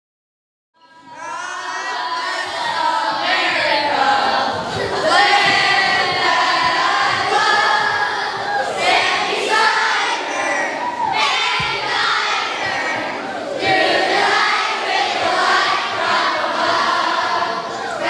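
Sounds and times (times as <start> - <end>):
children singing loudly: 0.8 - 18.0.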